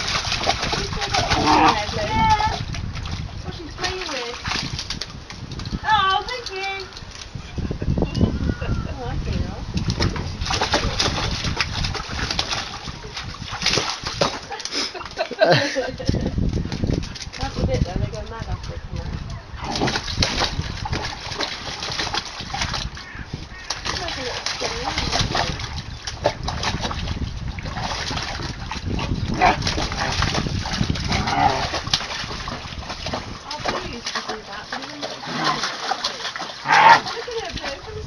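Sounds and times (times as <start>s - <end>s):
puppy splashing water in tub: 0.0s - 38.0s.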